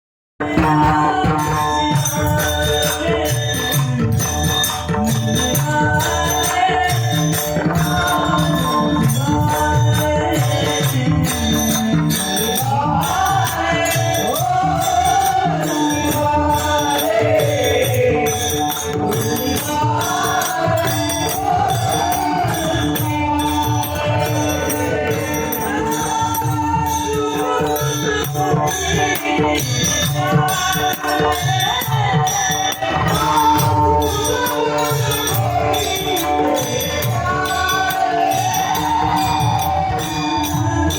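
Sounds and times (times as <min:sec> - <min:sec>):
jingling rattle percussion: 0:00.4 - 0:40.9
sustained held tones: 0:00.5 - 0:40.9.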